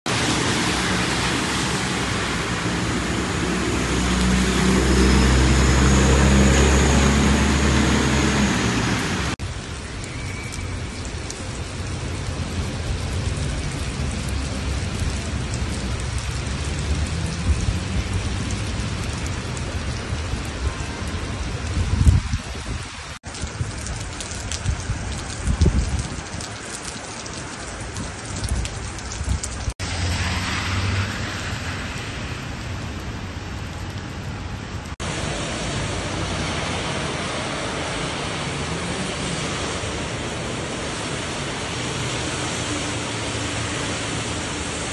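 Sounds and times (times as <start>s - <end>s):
heavy rain on pavement: 0.1s - 44.9s.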